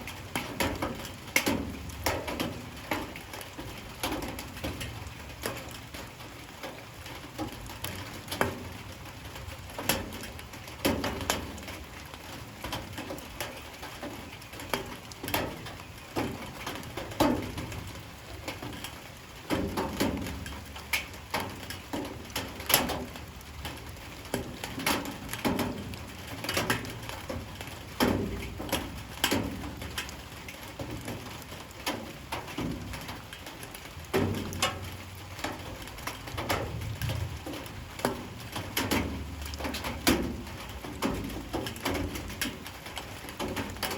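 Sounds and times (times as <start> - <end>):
light rain on hard surfaces: 0.0 - 43.9.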